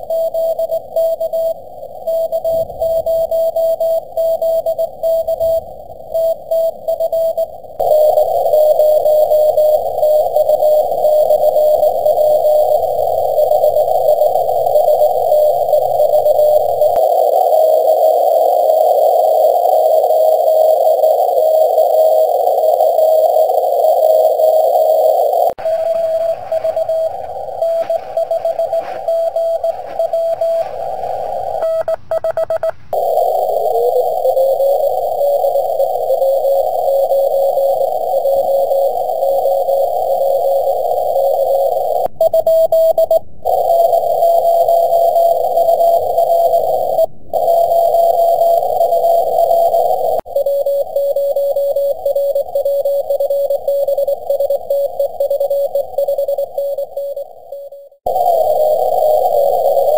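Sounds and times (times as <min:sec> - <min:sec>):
radio band hiss: 0:00.0 - 0:42.1, 0:43.5 - 0:57.4, 0:58.1 - 0:59.9
morse code tone: 0:00.0 - 0:59.9.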